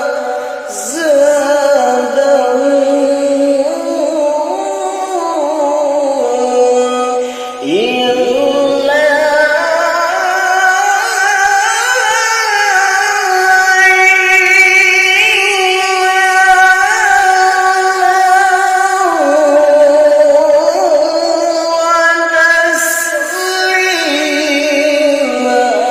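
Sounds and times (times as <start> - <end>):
man reciting melodically: 0.0 - 25.9.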